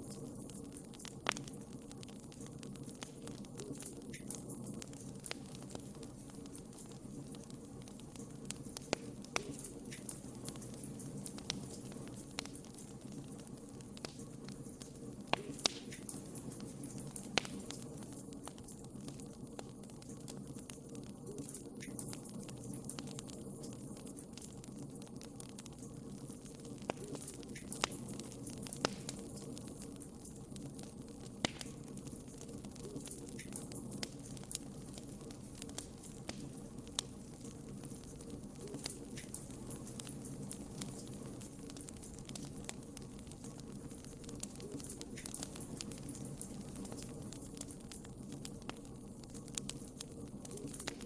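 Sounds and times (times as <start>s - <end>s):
fire burning with crackles: 0.0s - 51.0s.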